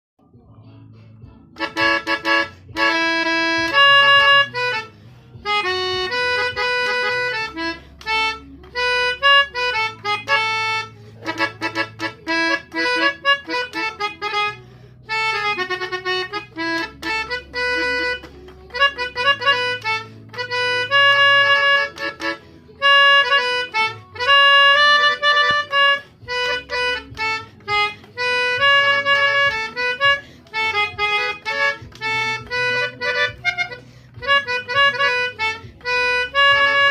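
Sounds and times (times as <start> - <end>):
low sustained bass notes: 0.3 - 36.9
melodica tune: 1.2 - 36.9.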